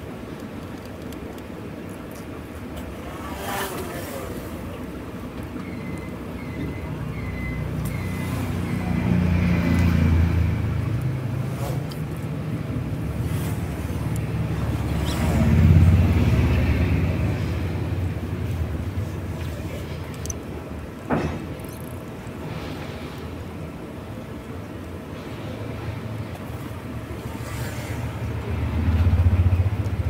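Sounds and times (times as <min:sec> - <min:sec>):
vehicles passing rumble: 0:00.0 - 0:30.0.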